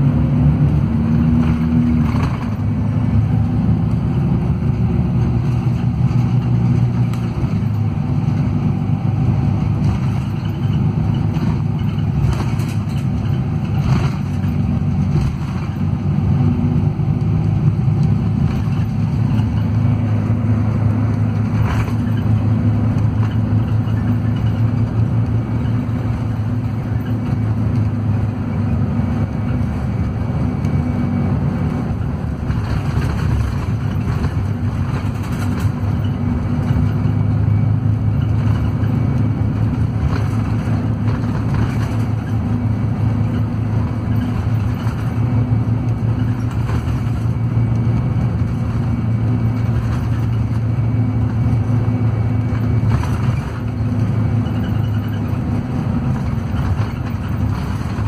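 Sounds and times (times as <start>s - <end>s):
coach engine drone from inside: 0.0s - 58.0s.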